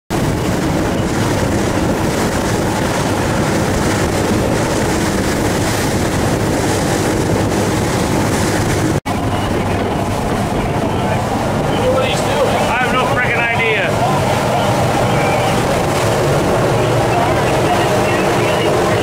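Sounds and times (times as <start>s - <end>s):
boat engine running: 0.1s - 19.0s
water rushing: 0.1s - 19.0s
wind buffeting microphone: 0.1s - 19.0s.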